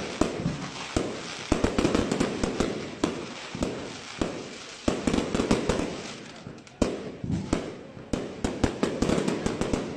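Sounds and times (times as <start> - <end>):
fireworks bursting: 0.0 - 9.9.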